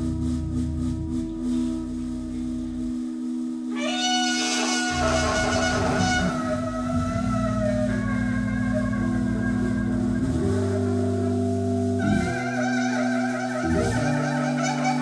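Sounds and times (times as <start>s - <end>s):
sustained low drone: 0.0s - 15.0s
wind instrument wavering line: 0.0s - 15.0s.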